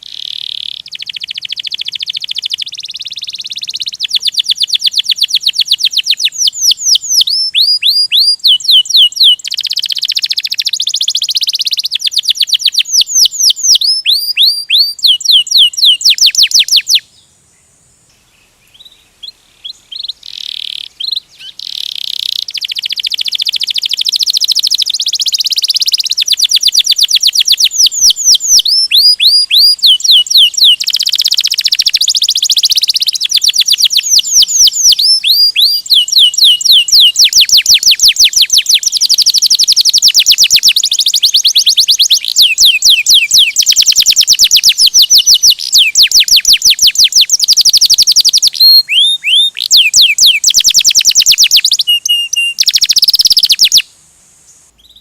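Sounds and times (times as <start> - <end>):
canary singing trills: 0.0 - 17.3, 18.2 - 53.9.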